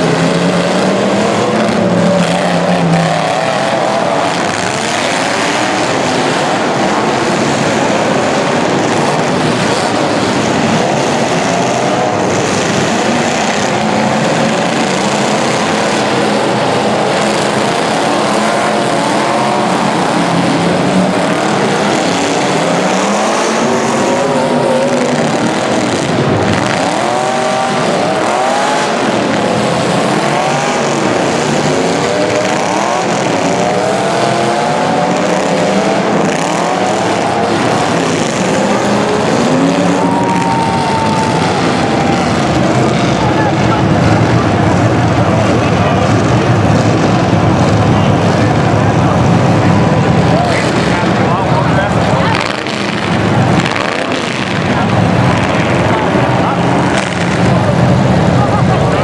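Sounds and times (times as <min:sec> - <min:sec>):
racing engines revving: 0:00.0 - 0:59.0.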